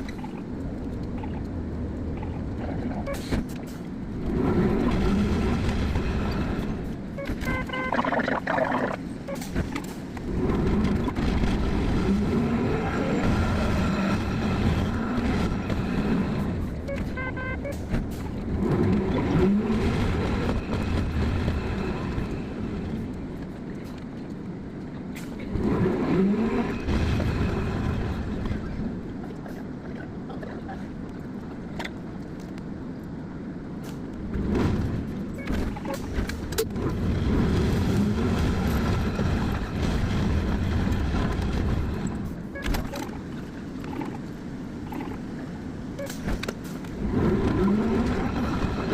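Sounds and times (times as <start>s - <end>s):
streetcar motor whine: 0.0s - 30.2s, 30.9s - 48.9s.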